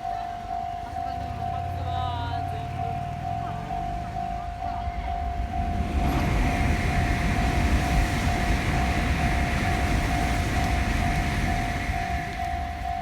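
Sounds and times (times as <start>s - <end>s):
level crossing bell ringing: 0.0s - 13.0s
passing train rumble: 0.0s - 13.0s.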